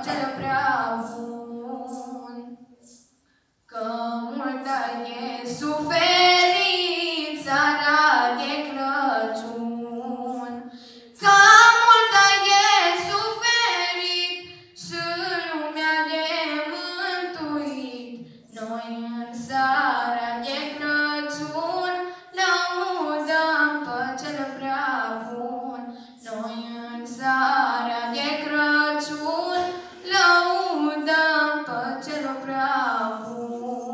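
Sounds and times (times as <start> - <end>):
women singing unaccompanied: 0.0 - 3.0, 3.7 - 33.9.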